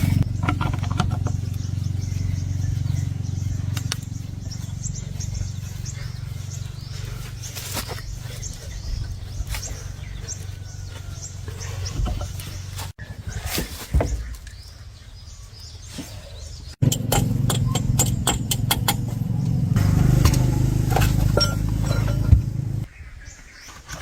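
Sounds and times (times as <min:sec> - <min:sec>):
small birds chirping: 0:00.0 - 0:20.2.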